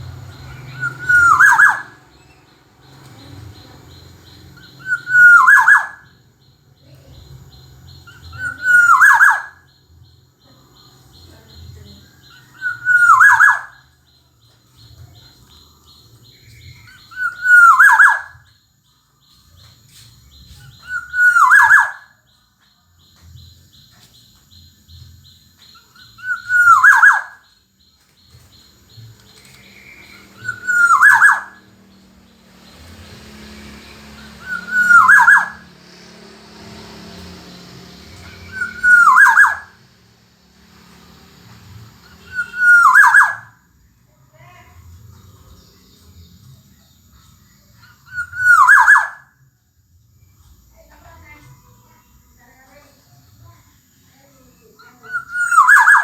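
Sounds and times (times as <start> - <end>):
bird calling: 0.0 - 9.8, 10.4 - 18.5, 19.5 - 22.4, 23.1 - 43.6, 47.6 - 49.3, 54.1 - 56.0.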